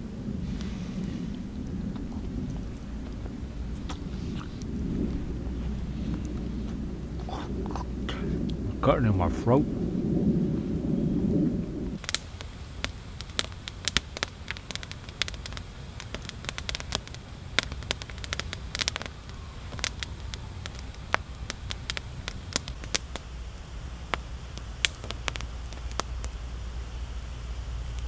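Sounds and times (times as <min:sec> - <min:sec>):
campfire crackling and popping: 0:00.0 - 0:28.0
low steady rumble: 0:00.0 - 0:28.0.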